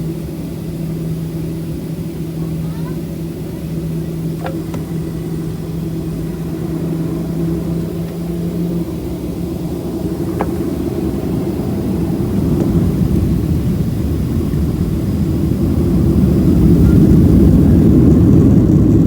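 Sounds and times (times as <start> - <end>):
jet engines rumbling: 0.0 - 19.0
steady hum: 0.0 - 19.0.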